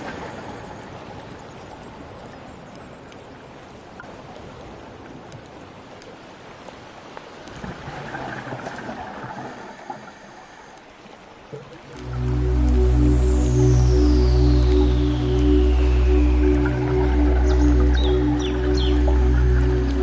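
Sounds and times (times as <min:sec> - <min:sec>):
underwater water noise: 0:00.0 - 0:20.0.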